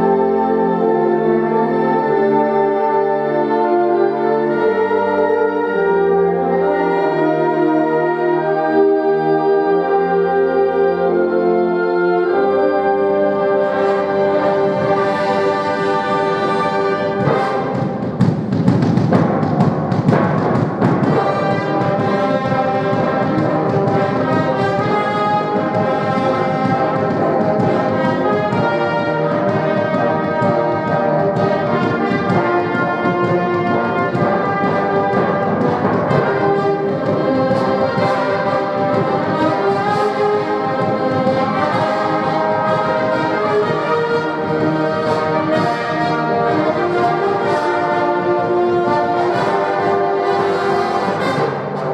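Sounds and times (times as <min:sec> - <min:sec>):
orchestral brass chords: 0:00.0 - 0:18.5, 0:19.1 - 0:51.9.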